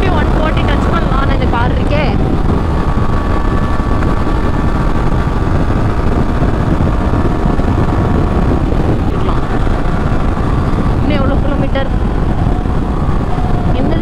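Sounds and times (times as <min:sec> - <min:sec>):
faint steady whine: 0:00.0 - 0:14.0
motorcycle engine: 0:00.0 - 0:14.0
road noise: 0:00.0 - 0:14.0
wind noise on microphone: 0:00.0 - 0:14.0.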